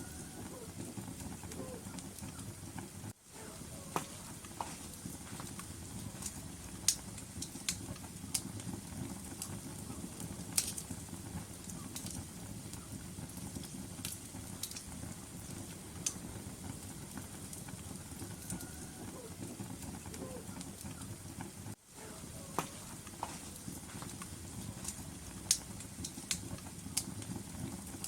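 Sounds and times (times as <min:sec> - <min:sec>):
flames rumbling: 0:00.0 - 0:28.0
wood crackling and popping: 0:00.0 - 0:28.0.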